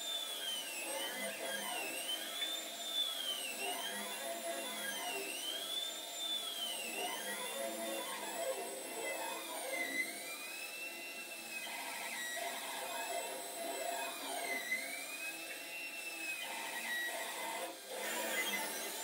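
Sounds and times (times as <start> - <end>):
stepper motors whining: 0.2 - 19.0.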